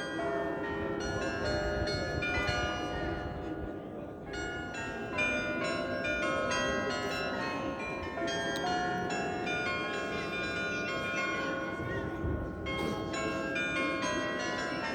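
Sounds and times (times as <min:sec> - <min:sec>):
church bells ringing: 0:00.0 - 0:14.9.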